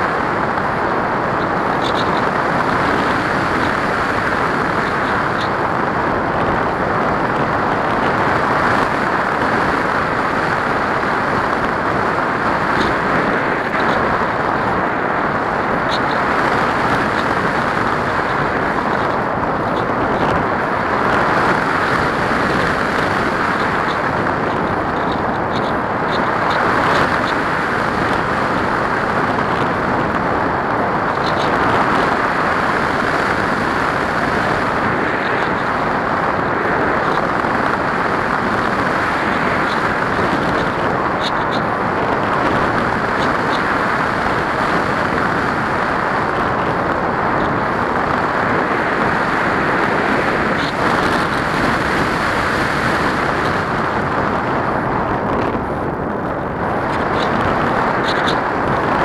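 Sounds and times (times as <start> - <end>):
airflow rushing: 0.0 - 59.0.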